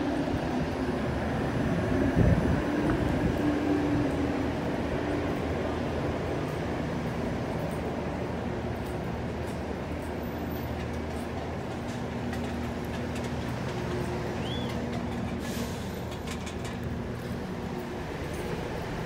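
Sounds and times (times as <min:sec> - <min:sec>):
train humming with held tones: 0:00.0 - 0:19.0.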